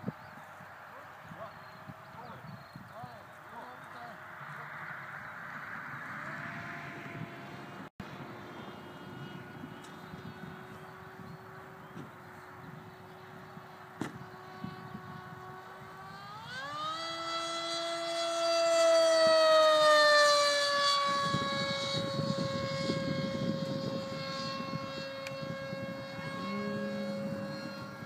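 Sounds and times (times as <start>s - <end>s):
electric motor and propeller whine: 0.0s - 28.0s.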